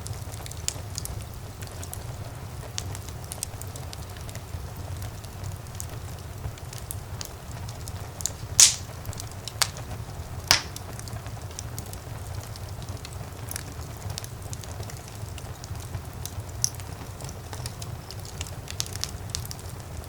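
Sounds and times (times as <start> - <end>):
wood fire burning in a fireplace: 0.0 - 20.0.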